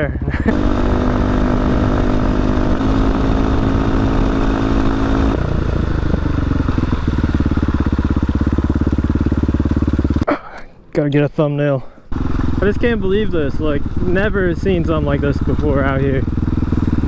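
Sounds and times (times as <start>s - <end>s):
motorcycle engine running: 0.0s - 10.3s, 12.1s - 17.0s.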